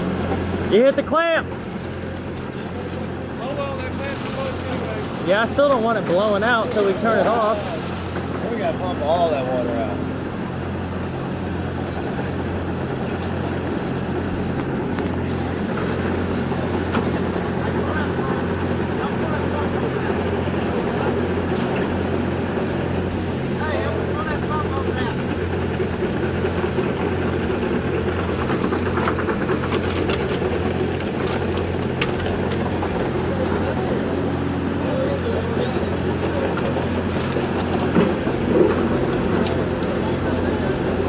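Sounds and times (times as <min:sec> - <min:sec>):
heavy engine droning: 0:00.0 - 0:41.0.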